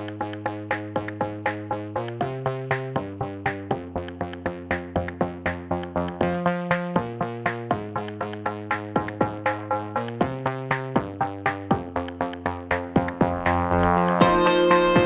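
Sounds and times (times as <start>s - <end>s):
synthesizer music with steady beat: 0.0s - 15.0s.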